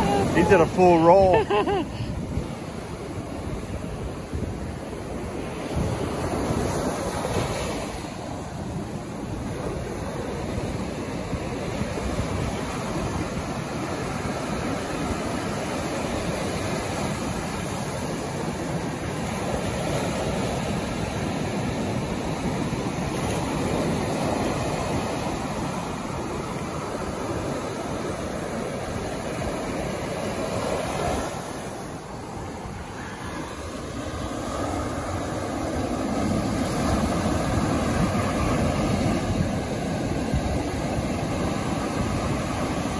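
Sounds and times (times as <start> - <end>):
ocean surf breaking on sand: 0.0 - 42.9.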